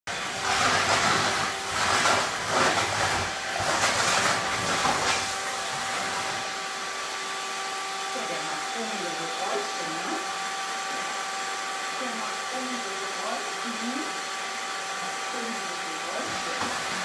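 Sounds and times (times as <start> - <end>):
vacuum cleaner running: 0.1 - 17.0.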